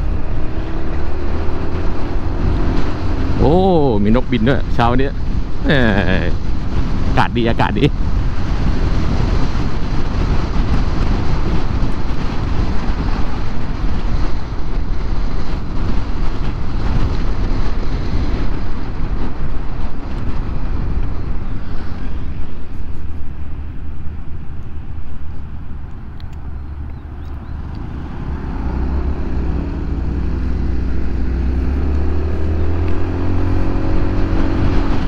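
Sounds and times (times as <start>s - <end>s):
road noise: 0.0s - 35.0s
wind rushing on microphone: 0.0s - 35.0s.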